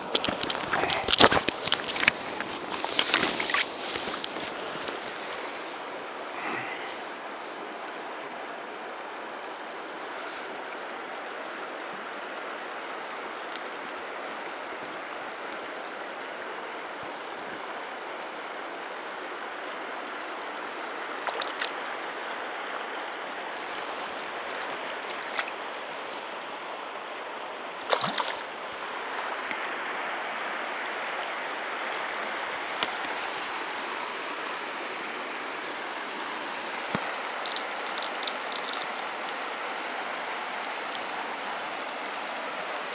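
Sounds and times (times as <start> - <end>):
river water running over stones: 0.0 - 42.9.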